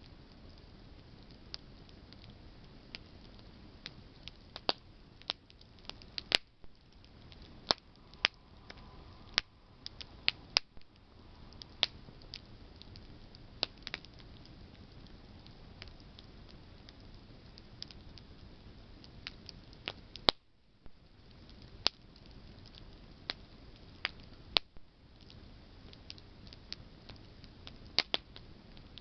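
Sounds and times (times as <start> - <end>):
campfire crackling and popping: 0.0 - 29.0
low rush of fire: 0.0 - 29.0.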